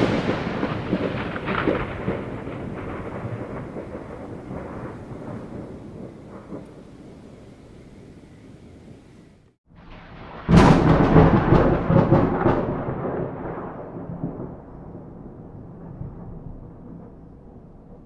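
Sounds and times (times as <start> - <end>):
thunder crack: 0.0 - 9.0, 9.7 - 18.0
rolling thunder rumble: 0.0 - 18.0
thunder crackles: 0.0 - 18.0.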